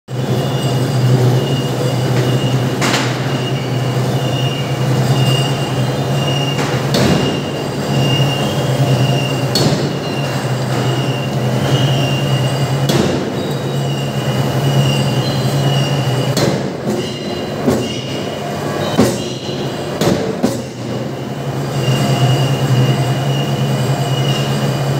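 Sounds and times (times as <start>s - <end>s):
machinery drone with high whine: 0.1s - 24.9s.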